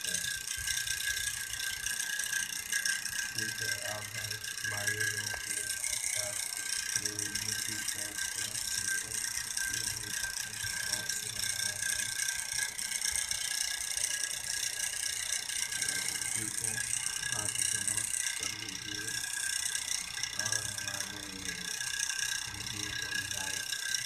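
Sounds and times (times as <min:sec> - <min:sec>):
faint high steady tones: 0:00.0 - 0:24.0
faint low hum: 0:00.0 - 0:24.0.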